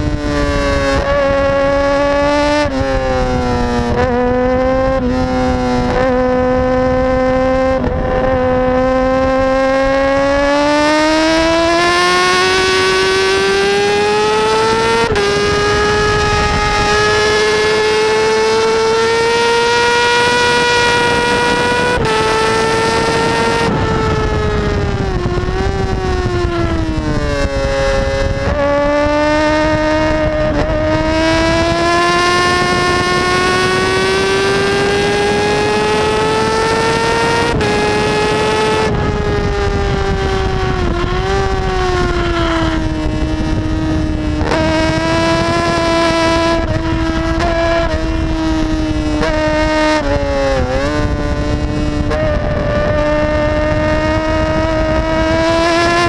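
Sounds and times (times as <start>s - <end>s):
motorcycle engine at high revs: 0.0s - 56.0s
wind and road rush: 0.0s - 56.0s.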